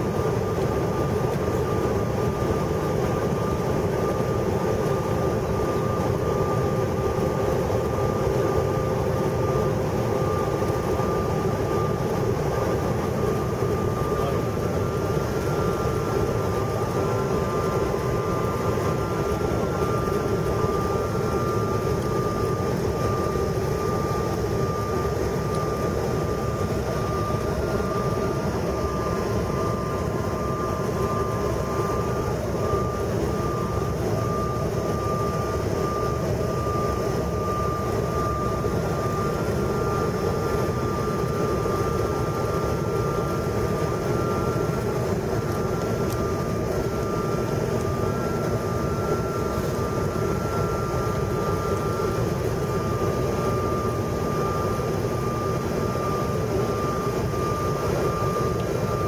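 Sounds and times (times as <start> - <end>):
jet engine drone and rushing air: 0.0 - 59.0
thin steady whine: 0.0 - 59.0.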